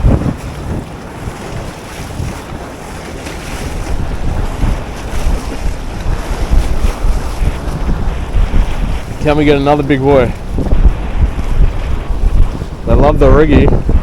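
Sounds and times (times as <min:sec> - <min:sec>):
choppy river water rushing: 0:00.0 - 0:14.0
wind buffeting microphone: 0:00.0 - 0:14.0.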